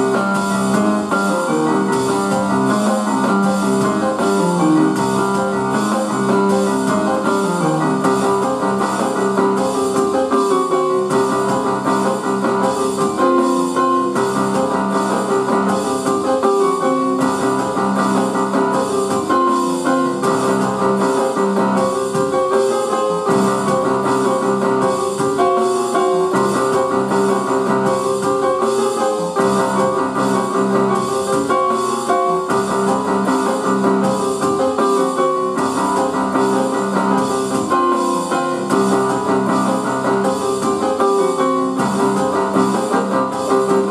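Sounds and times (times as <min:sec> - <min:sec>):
electronic keyboard piano melody: 0:00.0 - 0:43.9.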